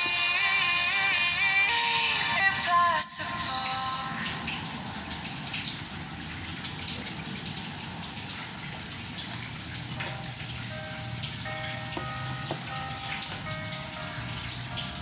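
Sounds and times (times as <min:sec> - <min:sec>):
rushing splashing water: 0:02.2 - 0:15.0.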